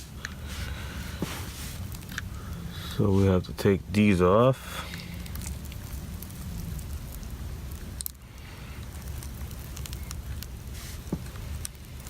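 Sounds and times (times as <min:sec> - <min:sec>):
cables clicking and crackling: 0:00.0 - 0:12.0
low steady rumble: 0:00.0 - 0:12.0.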